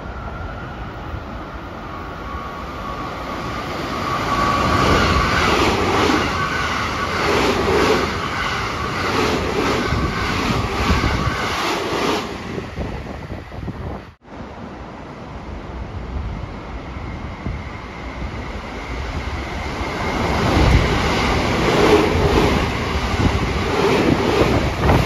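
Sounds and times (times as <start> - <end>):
electric train whine: 0.0 - 25.0.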